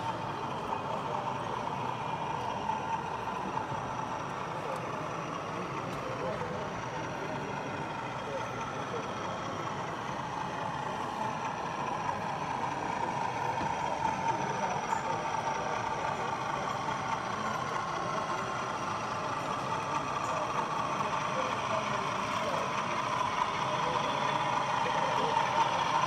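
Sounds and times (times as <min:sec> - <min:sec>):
model locomotive engine sound: 0:00.0 - 0:26.0
murmur of voices: 0:00.0 - 0:26.0.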